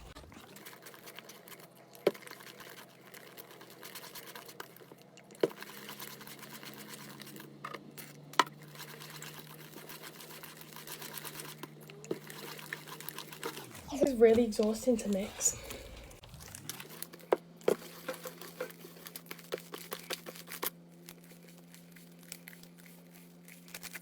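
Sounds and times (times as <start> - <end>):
slime scraping and squishing: 0.0 - 24.0.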